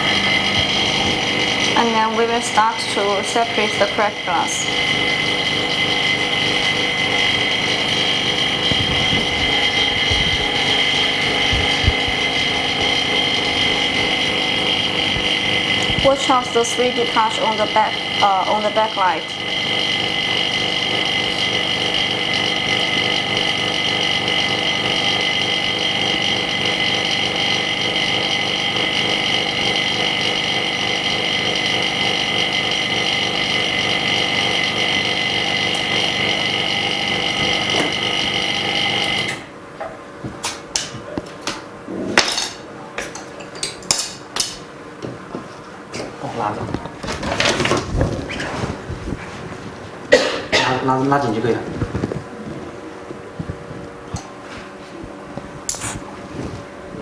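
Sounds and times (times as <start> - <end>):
electrical machine hum with whine: 0.0 - 57.0.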